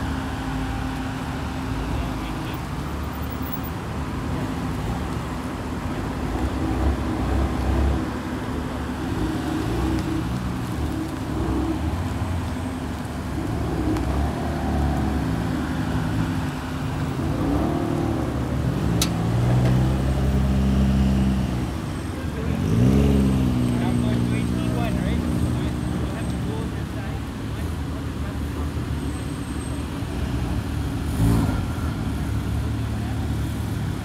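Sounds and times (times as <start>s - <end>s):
cars driving slowly past: 0.0s - 34.0s.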